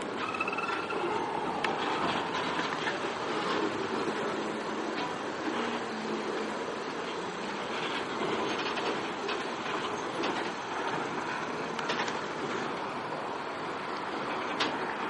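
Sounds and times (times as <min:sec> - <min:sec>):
train wheels rumbling on rails: 0:00.0 - 0:15.0
wheels clanking over rail joints: 0:00.0 - 0:15.0.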